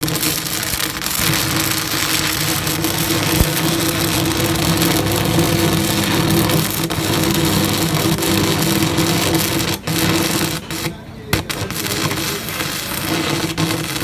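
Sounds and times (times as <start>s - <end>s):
arc welding crackle and hiss: 0.0s - 14.0s
buzzing hum: 0.0s - 14.0s.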